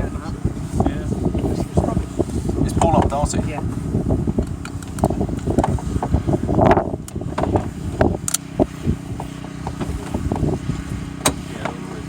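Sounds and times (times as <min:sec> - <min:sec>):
faint engine hum: 0:00.0 - 0:12.0
wind buffeting microphone: 0:00.0 - 0:12.0.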